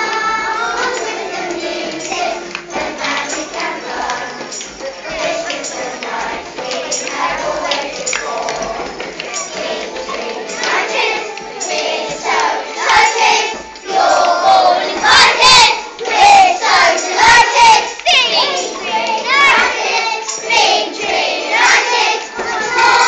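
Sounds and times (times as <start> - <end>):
children singing together: 0.0 - 23.0.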